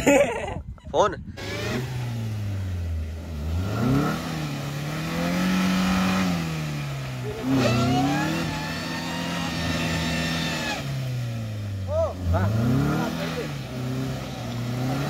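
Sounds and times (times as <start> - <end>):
car engine revving: 1.4 - 15.0.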